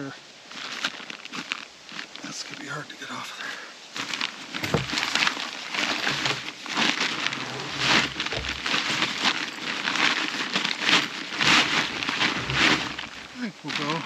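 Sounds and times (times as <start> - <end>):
crinkly material rustling: 0.5 - 2.7, 3.9 - 14.0.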